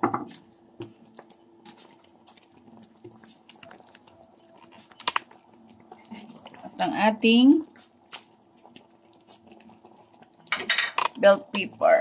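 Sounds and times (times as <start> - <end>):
low steady hum: 0.0 - 12.0
sauce simmering with pops: 0.2 - 11.8.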